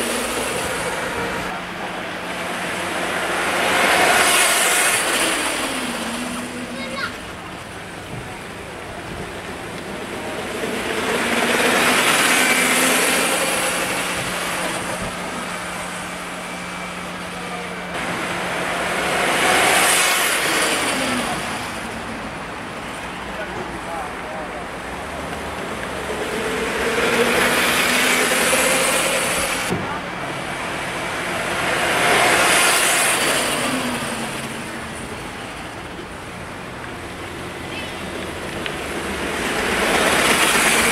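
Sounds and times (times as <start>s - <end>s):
go-kart passing by: 0.0s - 7.4s, 9.2s - 22.1s, 25.5s - 29.7s, 30.4s - 35.8s, 37.0s - 40.9s.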